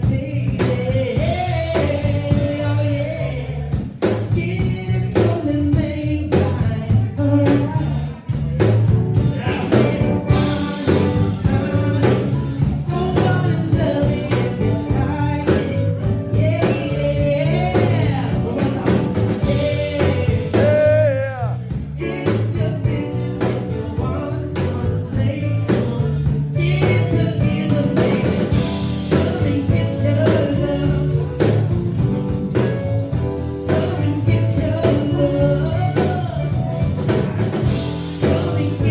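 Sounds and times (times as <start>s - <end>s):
song with singing and band: 0.0s - 38.9s.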